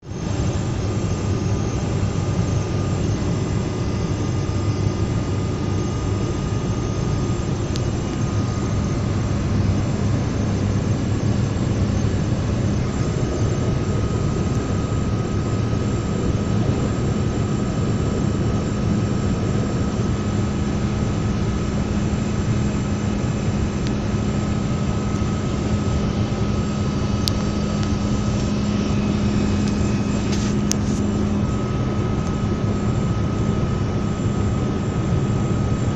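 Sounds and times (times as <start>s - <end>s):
diesel engine hum: 0.0s - 35.9s.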